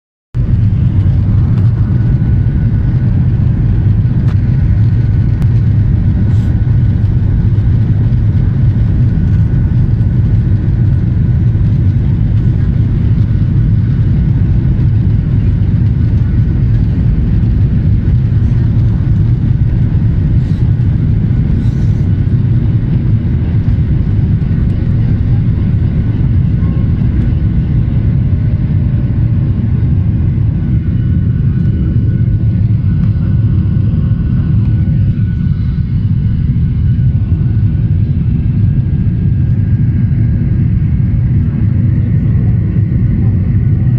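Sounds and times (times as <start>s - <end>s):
airliner engines and wheels rumbling: 0.4s - 43.9s.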